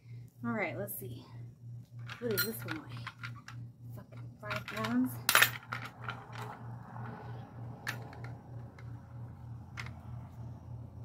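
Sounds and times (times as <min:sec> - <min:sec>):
faint pulsing low hum: 0:00.0 - 0:11.0.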